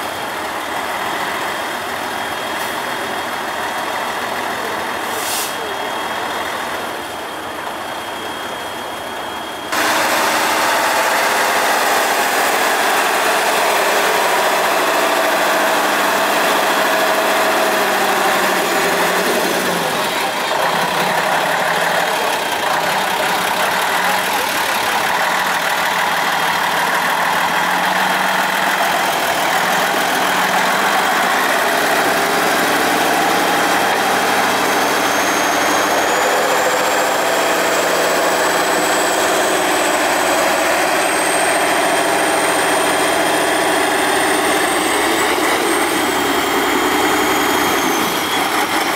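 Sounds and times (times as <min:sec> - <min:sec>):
truck engine revving: 0:09.7 - 0:48.9.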